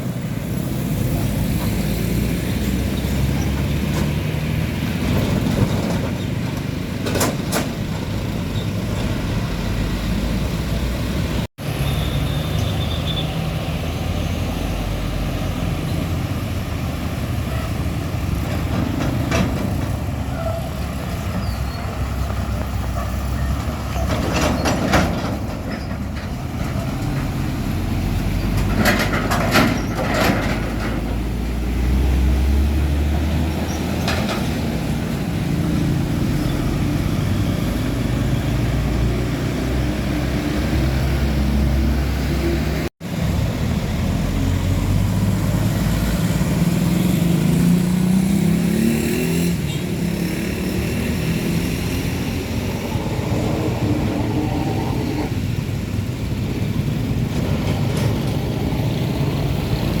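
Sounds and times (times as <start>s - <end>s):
road traffic: 0.0s - 60.0s
truck engines passing: 0.0s - 60.0s.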